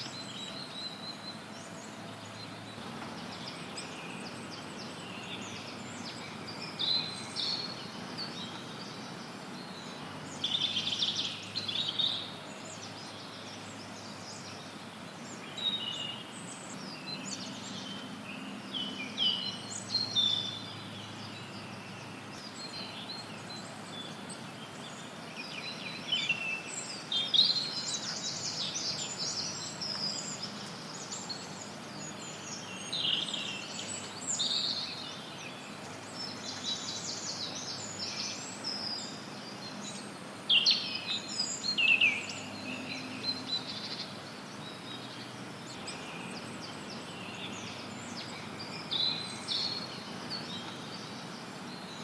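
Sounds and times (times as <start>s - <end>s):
songbirds singing and chirping: 0.0s - 52.0s
white noise hiss: 0.0s - 52.0s.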